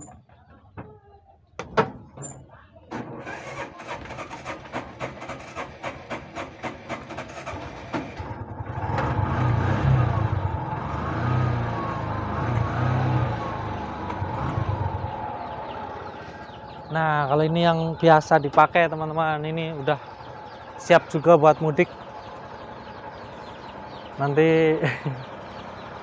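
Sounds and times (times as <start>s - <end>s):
engine chugging and revving: 3.2s - 26.0s.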